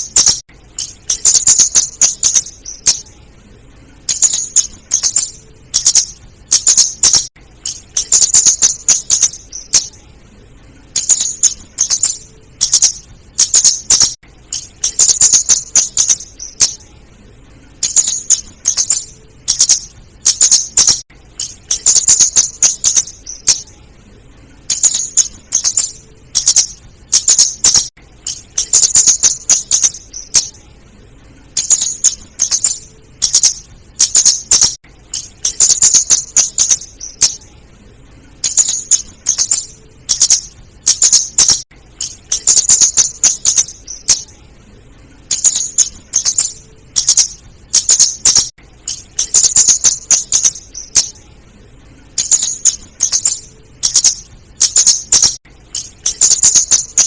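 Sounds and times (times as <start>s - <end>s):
bird ticking chatter: 0.0s - 3.1s, 4.0s - 10.0s, 10.9s - 16.8s, 17.8s - 23.7s, 24.7s - 30.6s, 31.6s - 37.4s, 38.4s - 44.3s, 45.3s - 51.2s, 52.2s - 57.0s.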